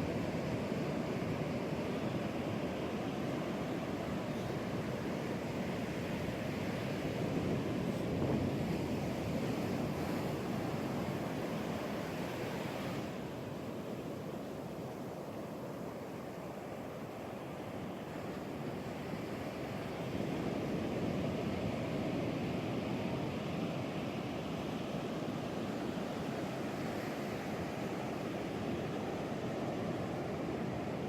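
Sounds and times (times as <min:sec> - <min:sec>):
ocean waves breaking on beach: 0:00.0 - 0:31.0.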